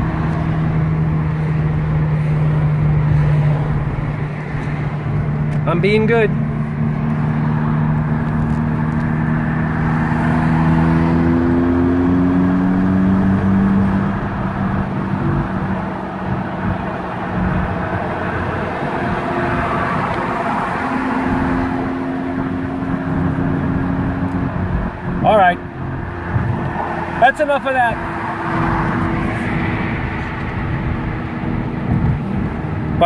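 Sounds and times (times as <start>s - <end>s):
car engine running: 0.0s - 33.0s
road noise: 0.0s - 33.0s.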